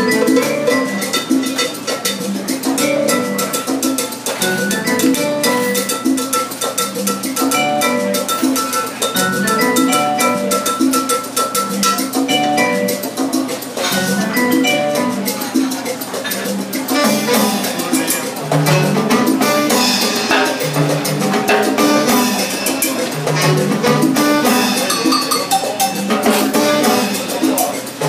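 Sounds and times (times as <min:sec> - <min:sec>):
salsa band playing: 0:00.0 - 0:28.0
timbales and drum kit beat: 0:00.0 - 0:28.0.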